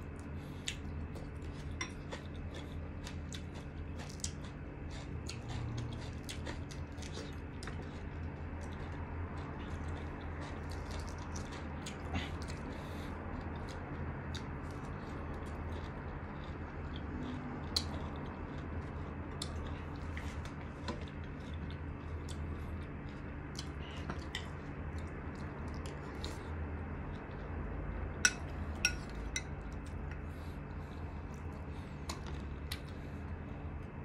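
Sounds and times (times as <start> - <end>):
chewing: 0.0 - 34.0
low hum: 0.0 - 34.0.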